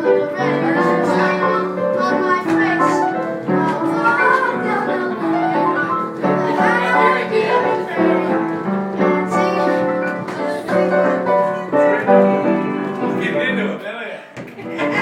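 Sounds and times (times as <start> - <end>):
person singing: 0.0 - 12.8
piano accompaniment: 0.0 - 13.9, 14.5 - 15.0.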